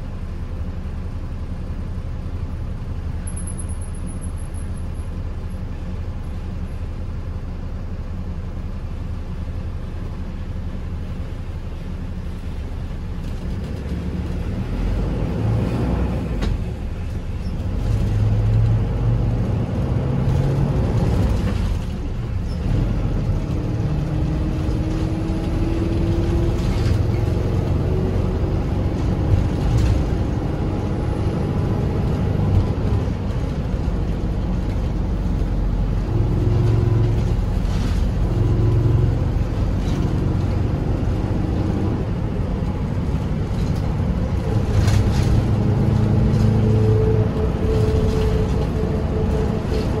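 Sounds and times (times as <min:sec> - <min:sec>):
minibus engine: 0:00.0 - 0:50.0
road rumble: 0:00.0 - 0:50.0.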